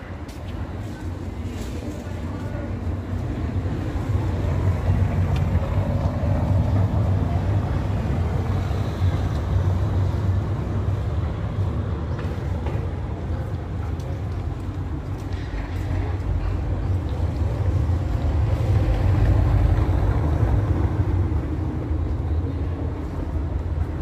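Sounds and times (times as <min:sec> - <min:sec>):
city street noise rumble: 0:00.0 - 0:24.0.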